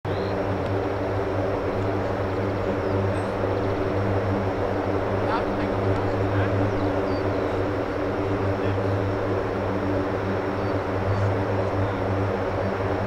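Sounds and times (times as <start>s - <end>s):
jet engines droning: 0.1s - 13.0s.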